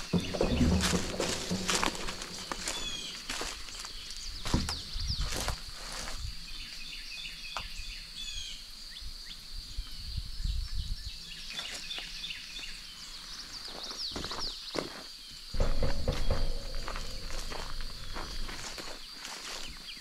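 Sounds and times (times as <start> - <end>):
birds chirping: 0.0 - 8.5, 10.1 - 20.0.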